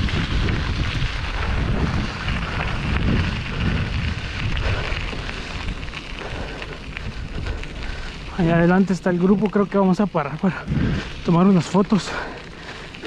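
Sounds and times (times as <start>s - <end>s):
bike rattling: 0.0s - 13.0s
bike tyres crunching on dirt: 0.0s - 13.0s
wind buffeting microphone: 0.0s - 13.0s.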